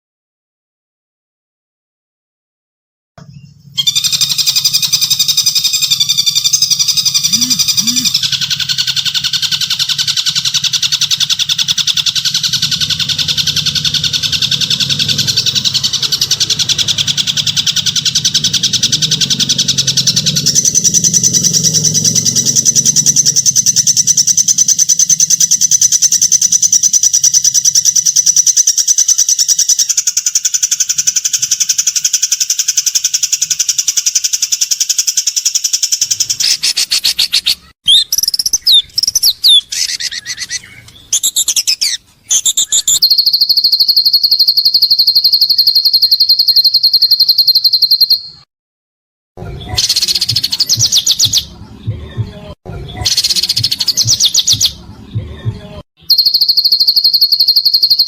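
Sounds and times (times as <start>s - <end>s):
bird chattering trill: 3.2s - 48.5s, 49.5s - 51.5s, 52.9s - 54.8s, 56.0s - 58.0s.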